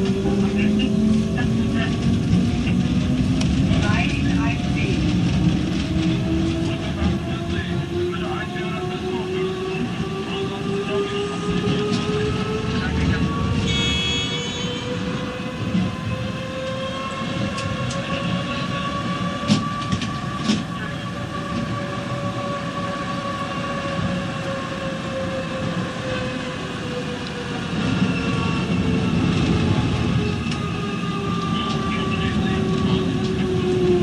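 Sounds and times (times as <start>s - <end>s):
tram wheels rumbling on track: 0.0s - 34.0s.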